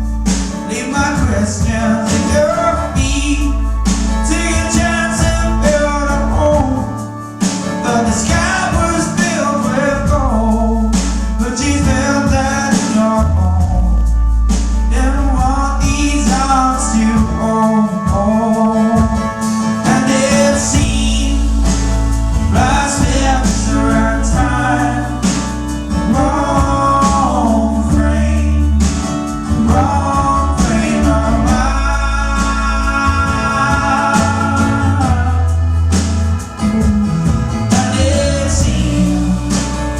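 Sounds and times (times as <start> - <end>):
guitar: 0.0 - 39.9
heavy bass line: 0.0 - 39.9
man singing: 0.0 - 39.9.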